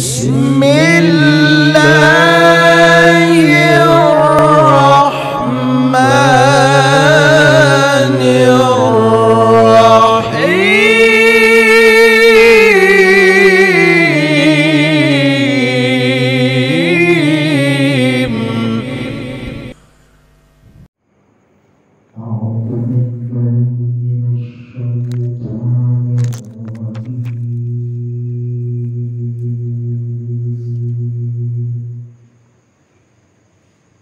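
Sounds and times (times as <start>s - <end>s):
man chanting melodically: 0.0s - 19.8s, 22.2s - 32.4s.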